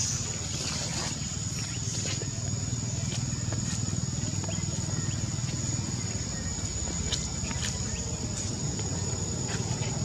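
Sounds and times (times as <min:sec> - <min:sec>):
high-pitched insect drone: 0:00.0 - 0:10.0.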